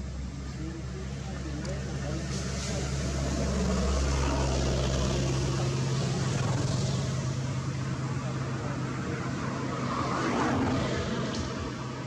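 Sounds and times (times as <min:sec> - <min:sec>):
low engine hum: 0:00.0 - 0:12.0
outdoor noise: 0:00.0 - 0:12.0.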